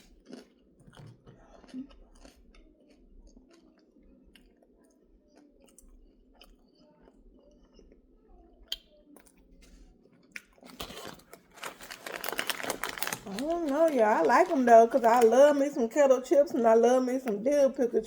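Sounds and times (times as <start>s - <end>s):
chewing crunchy chips: 0.0s - 15.7s.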